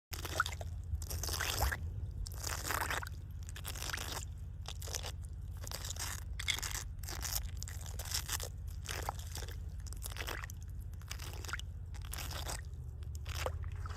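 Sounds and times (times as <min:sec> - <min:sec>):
steady low hum: 0:00.1 - 0:13.9.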